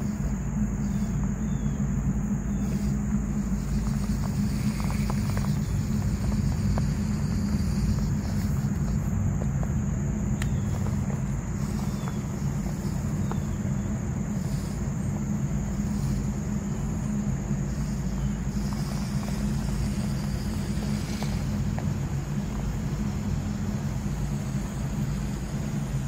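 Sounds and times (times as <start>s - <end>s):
tyres ticking on rock: 2.4s - 26.0s.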